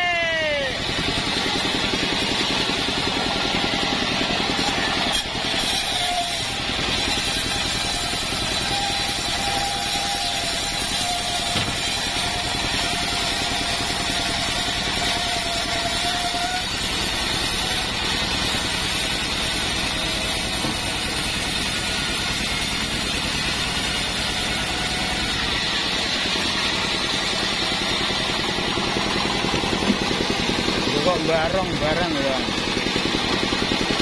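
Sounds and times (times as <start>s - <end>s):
band sawmill engine drone: 0.0s - 34.0s.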